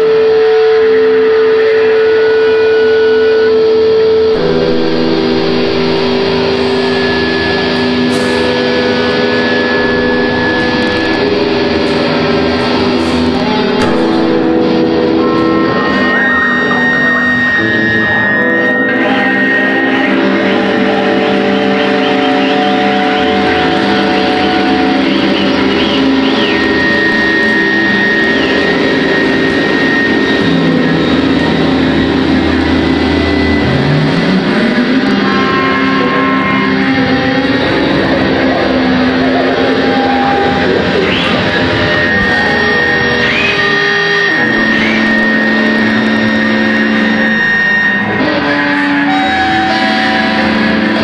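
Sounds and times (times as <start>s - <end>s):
guitars playing drones: 0.0s - 51.0s.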